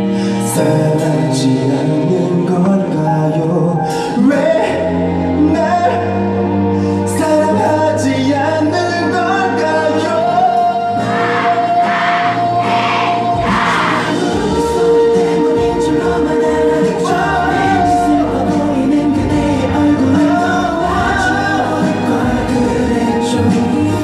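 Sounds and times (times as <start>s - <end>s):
man singing a slow ballad: 0.0s - 11.8s, 14.1s - 24.0s
soft backing track: 0.0s - 24.0s.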